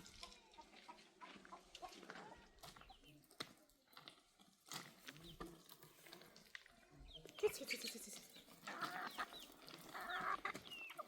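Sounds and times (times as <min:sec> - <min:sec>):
animal sounds: 0:00.0 - 0:11.0.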